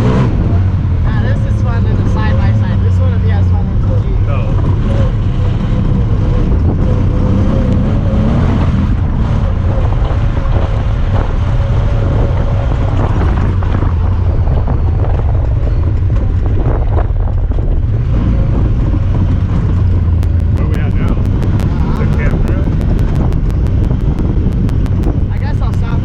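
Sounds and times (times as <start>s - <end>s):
off-road vehicle engine running: 0.0s - 26.0s
wind noise on microphone: 0.0s - 26.0s.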